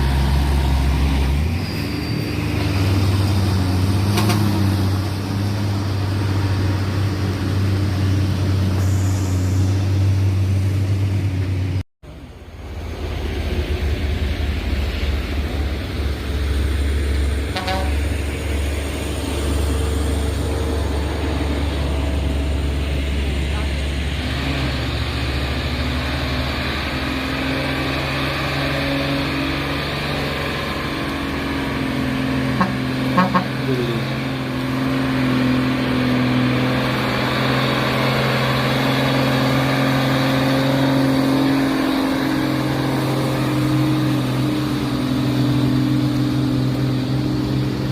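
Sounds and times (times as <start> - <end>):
truck diesel engine droning: 0.0 - 47.9.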